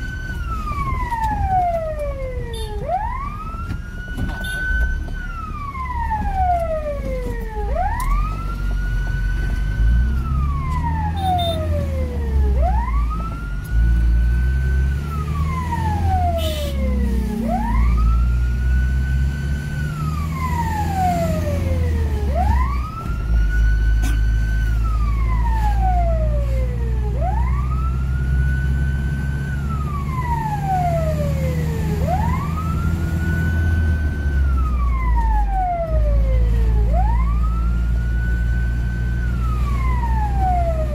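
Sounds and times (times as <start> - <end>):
fire engine siren wailing: 0.0 - 40.9
truck engine rumble: 0.0 - 40.9.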